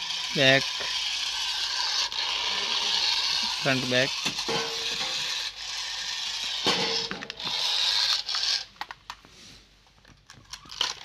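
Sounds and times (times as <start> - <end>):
toy motors and gears whirring: 0.0 - 9.2, 10.2 - 11.0.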